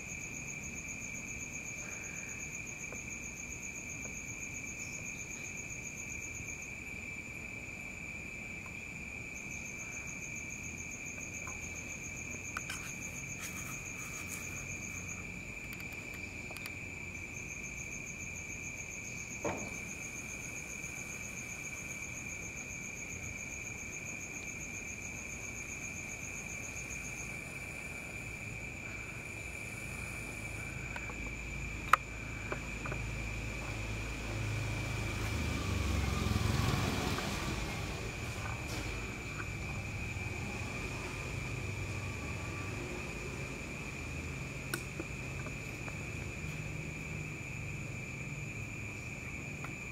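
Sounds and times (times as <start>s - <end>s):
crickets steady high trill: 0.0s - 49.9s
higher pulsing cricket trill: 0.0s - 49.9s.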